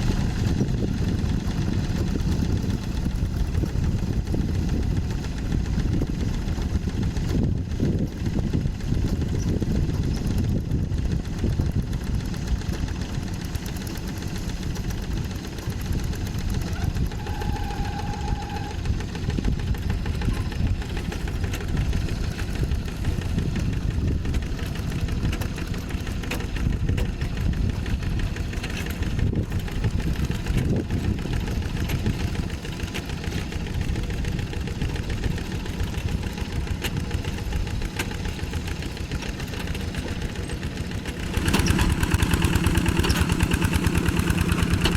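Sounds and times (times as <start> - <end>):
tractor diesel engine knocking: 0.0 - 44.9.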